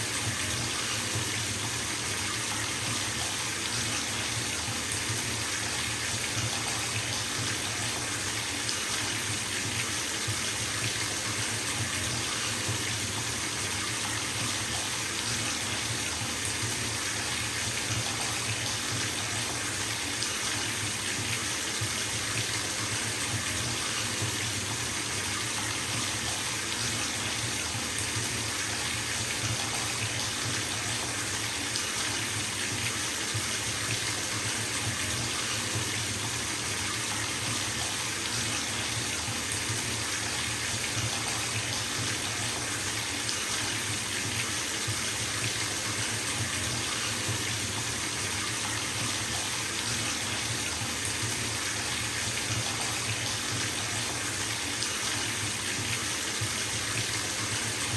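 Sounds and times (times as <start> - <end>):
water running into bathtub: 0.0 - 57.9.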